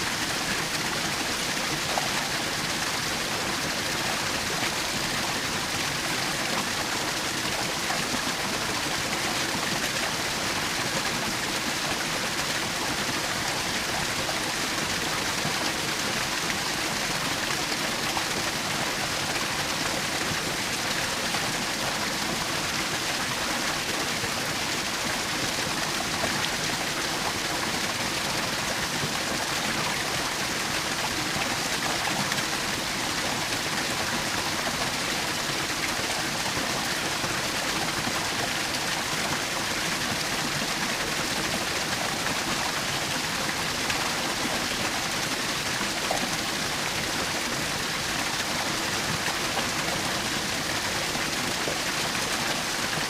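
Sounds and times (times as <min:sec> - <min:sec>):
small waterfall rushing: 0:00.0 - 0:53.0.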